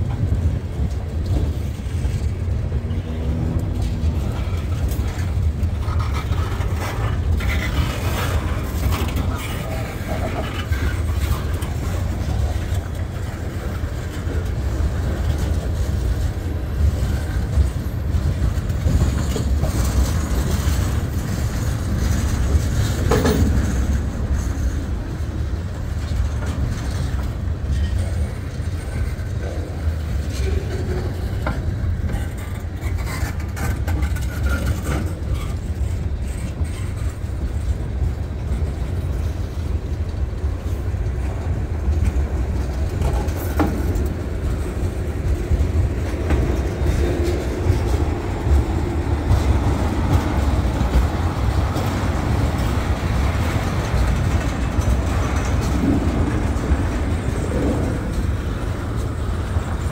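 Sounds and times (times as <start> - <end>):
steel wheels rumbling on rails: 0.0 - 59.9.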